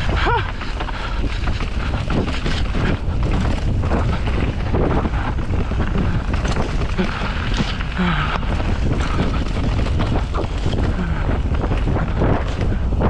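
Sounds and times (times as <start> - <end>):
bike rattling over bumps: 0.0 - 13.0
tyres on dirt: 0.0 - 13.0
wind rushing over microphone: 0.0 - 13.0.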